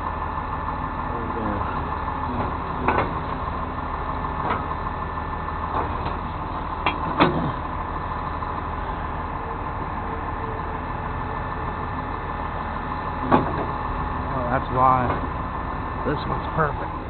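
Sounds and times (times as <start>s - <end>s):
tow truck engine idling: 0.0s - 17.0s.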